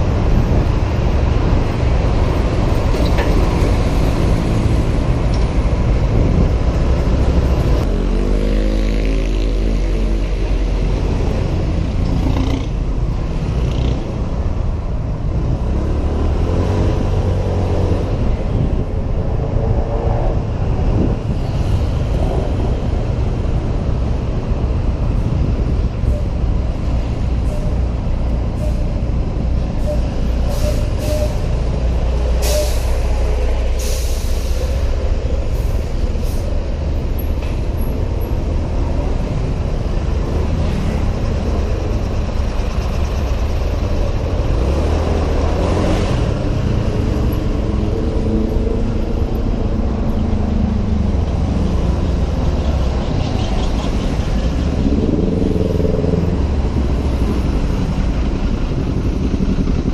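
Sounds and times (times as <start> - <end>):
wind rumble on microphone: 0.0 - 8.4, 9.0 - 32.4, 34.8 - 59.9
traffic noise: 0.0 - 59.9.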